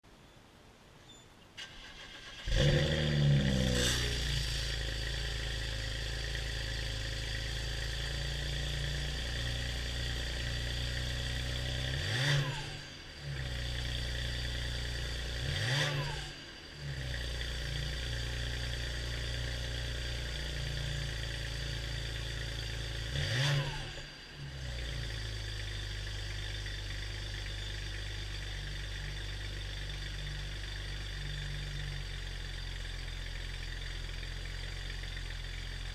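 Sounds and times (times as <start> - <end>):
car engine starting and idling: 1.6 - 35.9
engine revving: 1.6 - 35.9.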